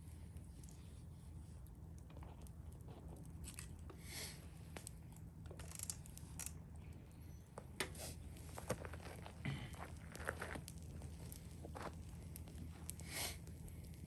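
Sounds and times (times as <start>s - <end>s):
campfire crackling: 0.1s - 14.0s.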